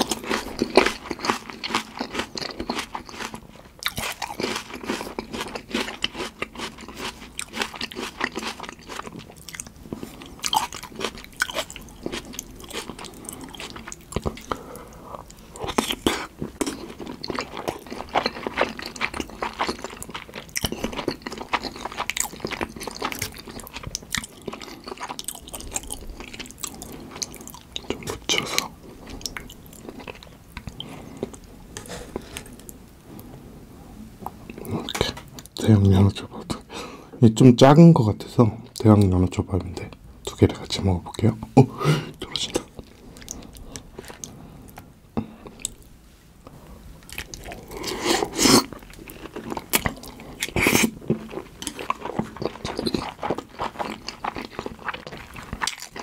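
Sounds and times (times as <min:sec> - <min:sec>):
chewing with mouth clicks: 0:00.0 - 0:32.8, 0:42.2 - 0:56.0.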